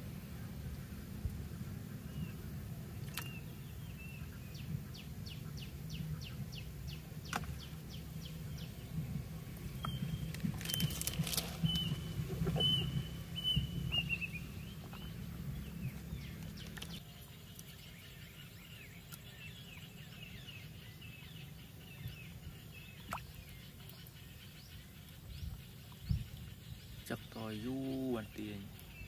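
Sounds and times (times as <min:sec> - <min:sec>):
low hum: 0:00.0 - 0:27.0
small birds chirping: 0:01.9 - 0:29.0.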